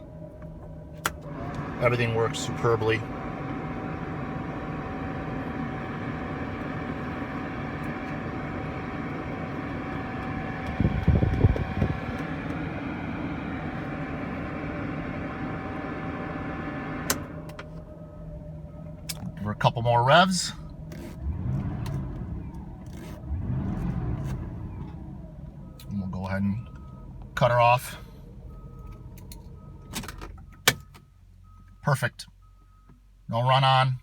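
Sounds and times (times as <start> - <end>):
car engine idling: 0.0 - 33.8
constant hum: 0.0 - 34.0.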